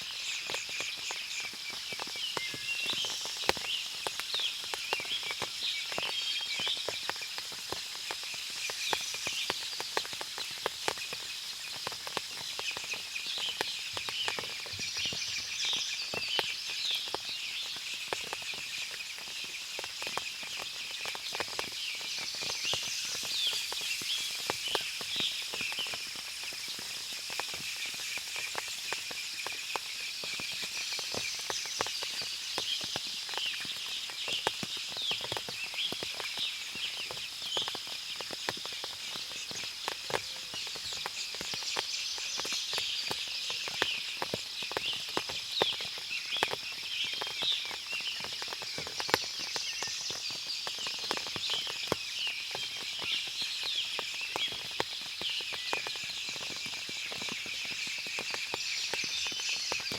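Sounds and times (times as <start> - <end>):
water dripping from leaves: 0.0 - 59.9
birds chirping: 8.2 - 59.9.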